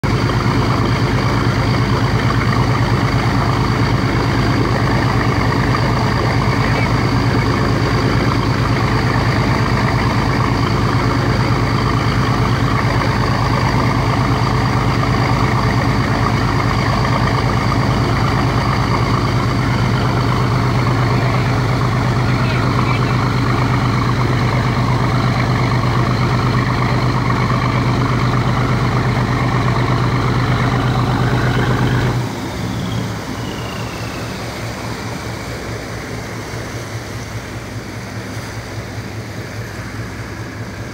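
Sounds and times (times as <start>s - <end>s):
boat engines droning: 0.0s - 40.9s
water rushing along hull: 0.0s - 40.9s.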